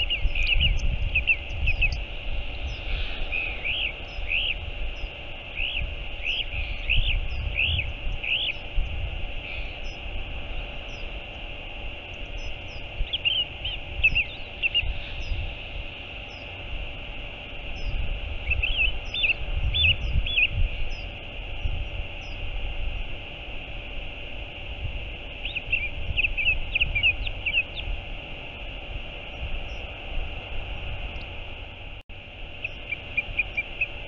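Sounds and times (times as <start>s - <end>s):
bird calls: 0.0s - 22.7s, 25.2s - 30.0s, 32.5s - 34.0s
low uneven rumble: 0.0s - 34.0s.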